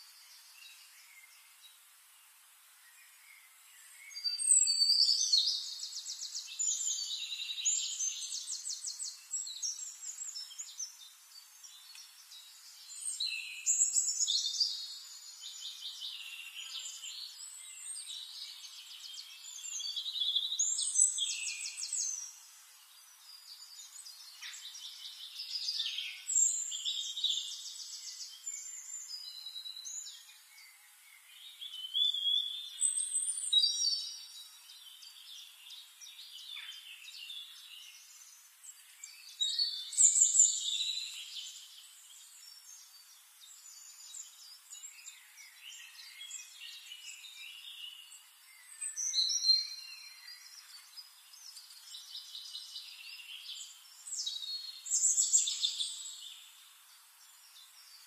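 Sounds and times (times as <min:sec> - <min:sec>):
bird song trills and chirps: 0:00.0 - 0:58.0.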